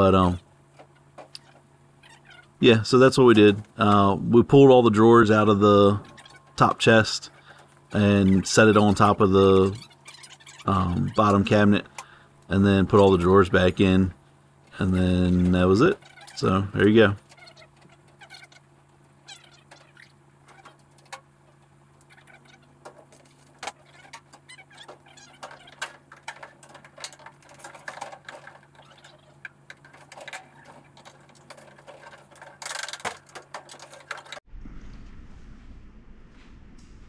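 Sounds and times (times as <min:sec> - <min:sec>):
low rumbling room noise: 0:00.0 - 0:37.0
steady low hum: 0:00.0 - 0:37.0.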